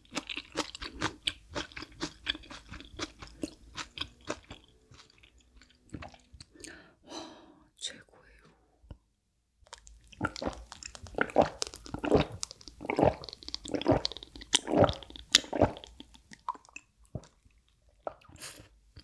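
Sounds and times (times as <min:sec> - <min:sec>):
person gulping a drink: 0:00.0 - 0:06.8, 0:09.6 - 0:18.6.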